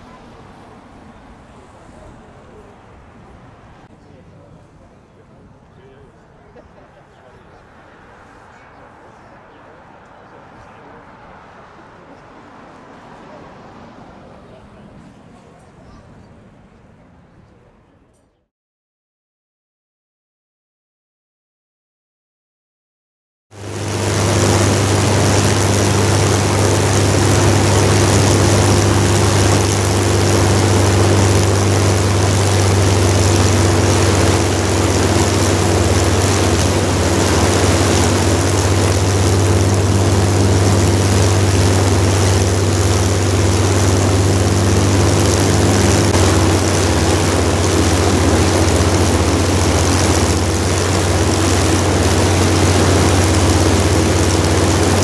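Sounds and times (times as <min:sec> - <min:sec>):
piston aircraft engines droning: 0:00.0 - 0:18.4, 0:23.6 - 0:55.0.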